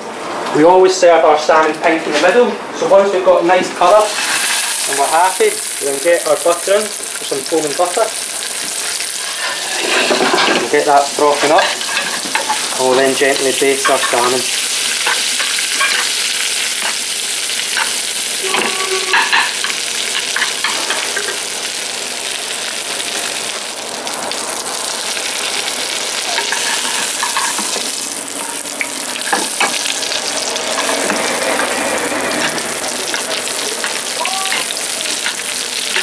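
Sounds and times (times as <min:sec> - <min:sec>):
fish sizzling in butter: 0:03.9 - 0:36.0.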